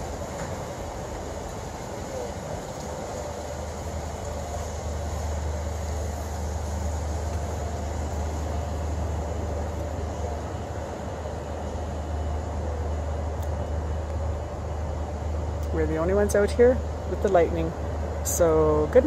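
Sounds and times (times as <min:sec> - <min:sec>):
ship engines rumbling: 0:00.0 - 0:19.0.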